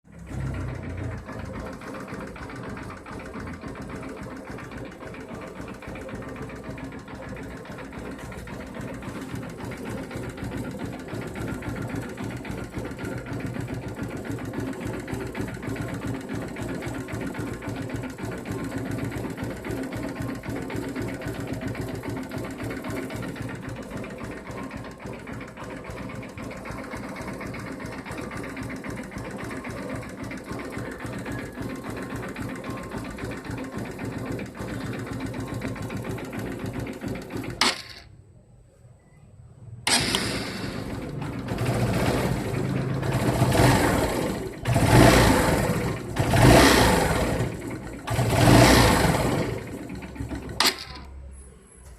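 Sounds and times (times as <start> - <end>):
engine running: 0.0 - 38.0, 39.6 - 51.9
fast even engine clatter: 0.0 - 38.1, 39.7 - 51.9.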